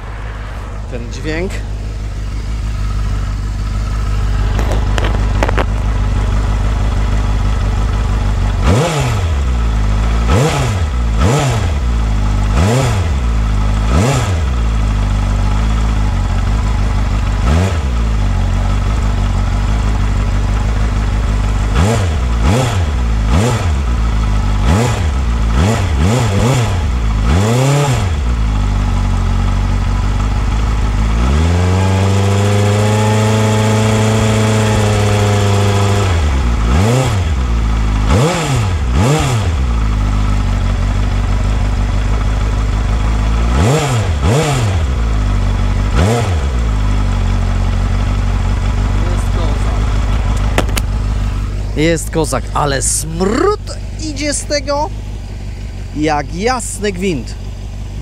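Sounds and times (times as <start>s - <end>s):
engine idling and revving: 0.0s - 58.0s.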